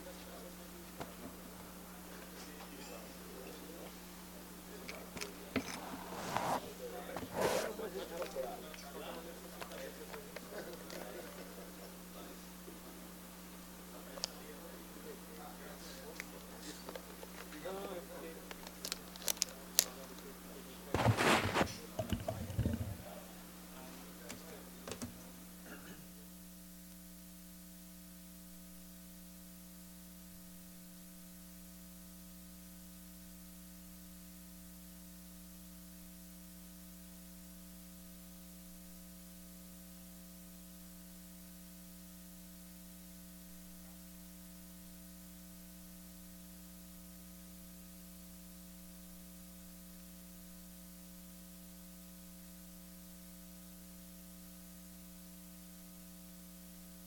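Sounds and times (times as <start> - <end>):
electrical hum with fixed tones: 0.0 - 57.0.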